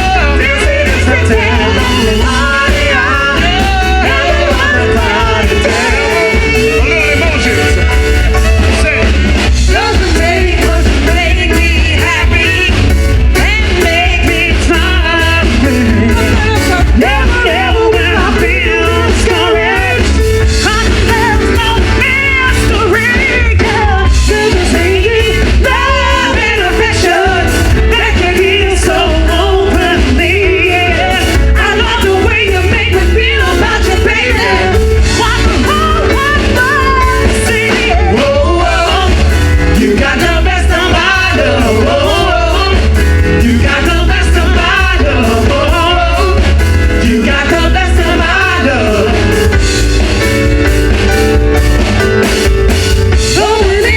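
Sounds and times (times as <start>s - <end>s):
live band with singer: 0.0s - 53.9s.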